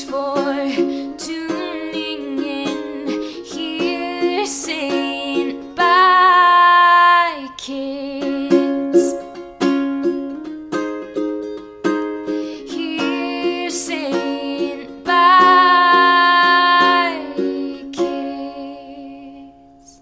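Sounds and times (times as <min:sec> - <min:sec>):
plucked string music: 0:00.0 - 0:20.0.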